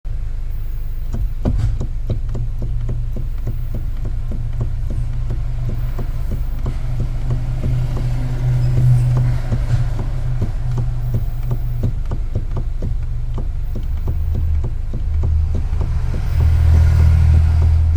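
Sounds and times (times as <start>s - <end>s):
steady low hum: 0.1s - 17.9s
power steering knocking: 0.2s - 17.9s.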